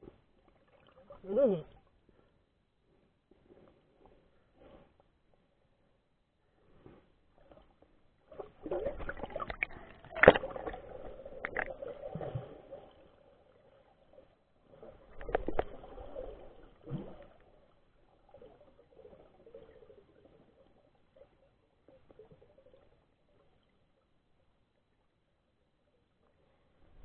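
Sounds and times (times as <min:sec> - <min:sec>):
muffled underwater sloshing and bubbling: 0:00.0 - 0:27.0.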